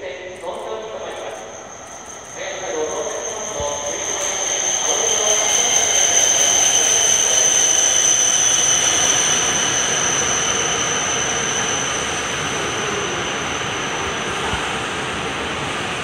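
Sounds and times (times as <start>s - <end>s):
train rushing into station: 0.0s - 16.0s
high whine: 0.4s - 16.0s.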